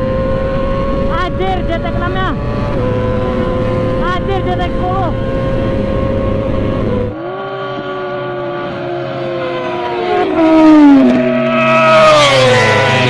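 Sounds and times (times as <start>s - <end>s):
motorcycle engine at high revs: 0.0s - 13.0s
motorcycles passing at speed: 0.0s - 13.0s.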